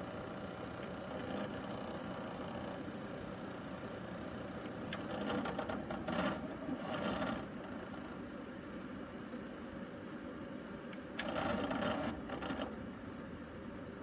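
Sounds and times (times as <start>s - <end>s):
disc player humming: 0.0s - 8.8s, 10.8s - 14.0s.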